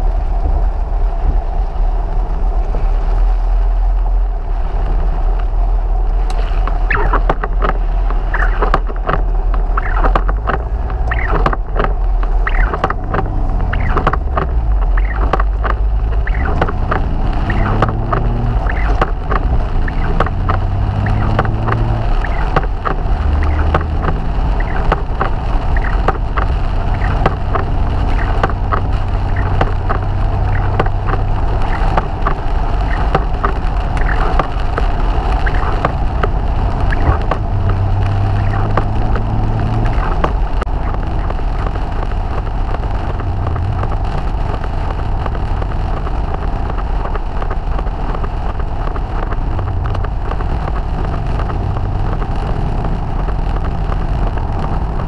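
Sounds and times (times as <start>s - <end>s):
car engine running: 0.0s - 55.0s
rain ticking on windscreen: 0.0s - 55.0s
tyre noise on wet road: 0.0s - 55.0s.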